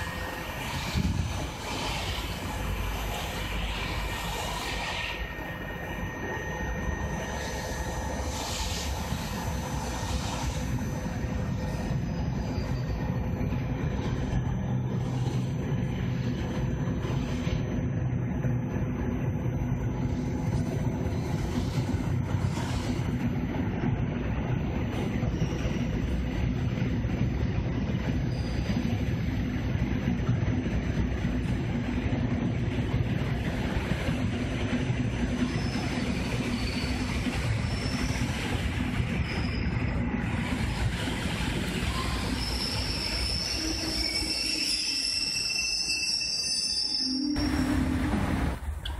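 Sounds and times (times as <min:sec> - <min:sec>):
train brakes squealing: 0:00.0 - 0:23.6, 0:24.8 - 0:31.1, 0:33.1 - 0:48.9
train wheels rumbling: 0:00.0 - 0:48.9.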